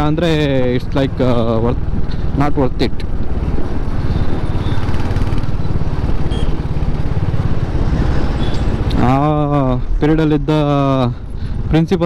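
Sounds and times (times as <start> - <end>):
motorcycle engine running: 0.0 - 9.9
road and wind noise: 0.0 - 12.0.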